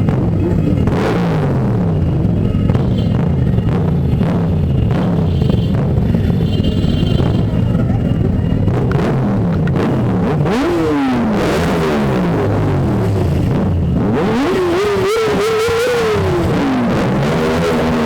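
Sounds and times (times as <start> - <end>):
motorcycle engine revving: 0.0 - 18.0
motorcycle engines running: 0.0 - 18.0.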